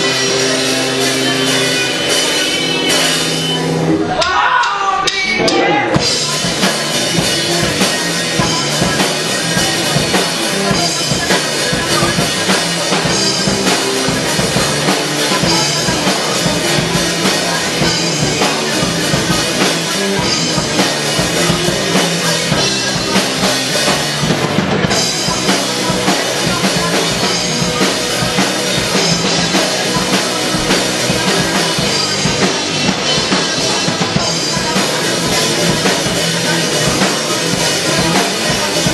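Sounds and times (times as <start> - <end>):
band playing a song: 0.0 - 38.9
bass drum and snare beat: 5.1 - 38.9.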